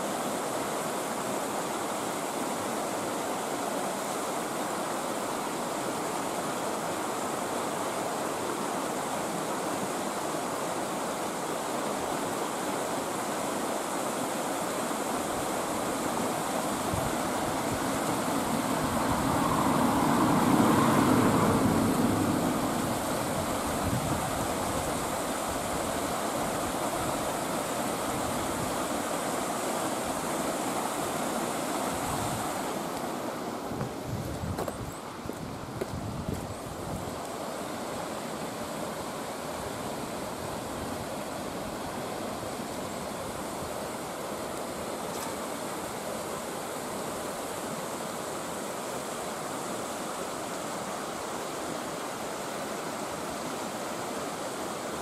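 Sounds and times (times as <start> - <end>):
stream pouring over rocks: 0.0 - 55.0.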